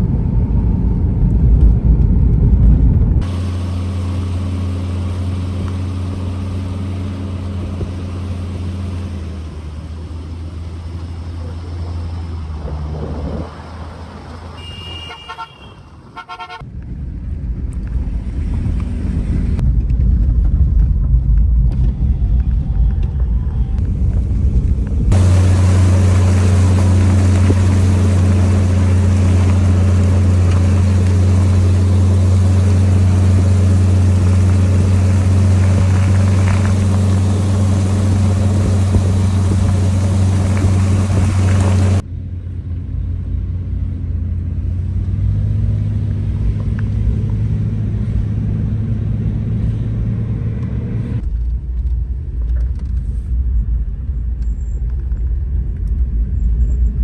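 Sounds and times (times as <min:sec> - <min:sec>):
road and wind noise: 0:00.0 - 0:57.0
vehicle engine drone: 0:00.0 - 0:57.0.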